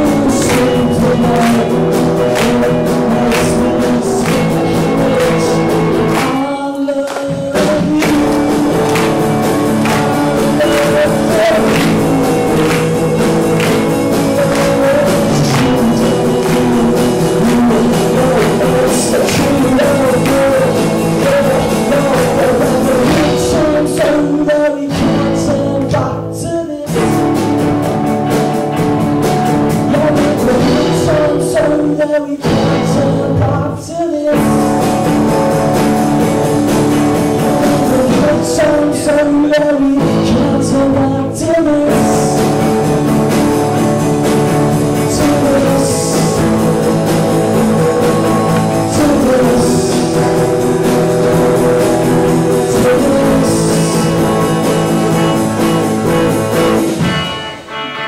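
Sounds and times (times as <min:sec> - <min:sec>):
acoustic guitar: 0:00.0 - 0:58.0
drum kit: 0:00.0 - 0:58.0
person singing: 0:00.0 - 0:58.0.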